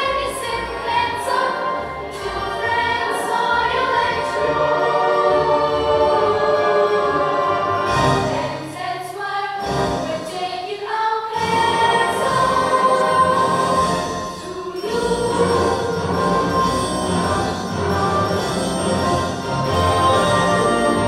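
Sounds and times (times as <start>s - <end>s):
girls choir singing: 0.0s - 19.2s.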